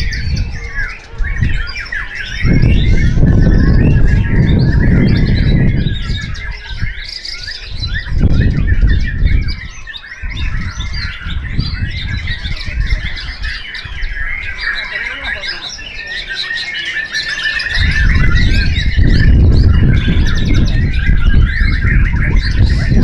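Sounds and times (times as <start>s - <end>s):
birds singing: 0.0s - 23.0s.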